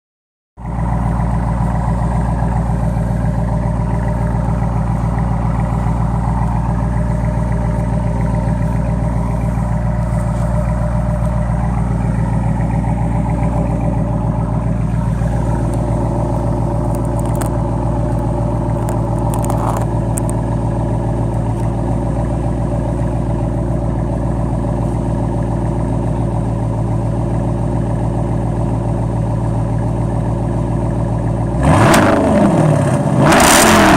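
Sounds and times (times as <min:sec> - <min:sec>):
car exhaust idling: 0:00.6 - 0:33.9.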